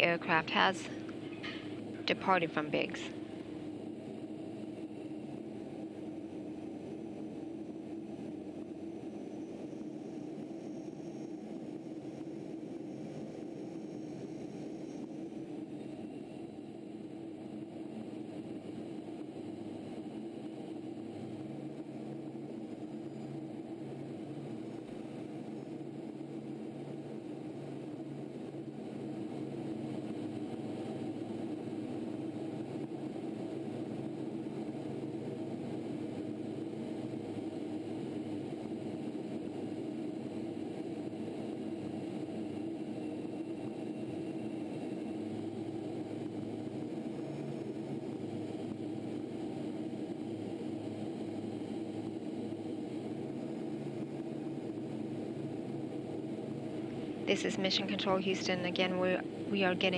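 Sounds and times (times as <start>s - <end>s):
faint steady hum: 0.0s - 59.9s
jet engine cabin drone: 0.0s - 59.9s.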